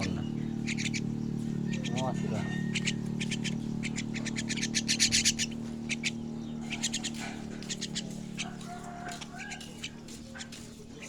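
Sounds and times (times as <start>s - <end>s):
bird chicks chirping harshly: 0.0s - 11.0s.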